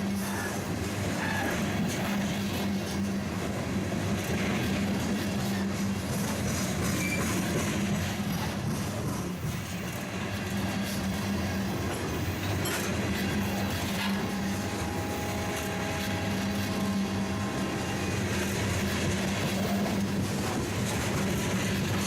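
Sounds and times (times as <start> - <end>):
freight train wheels on rails: 0.0 - 22.0.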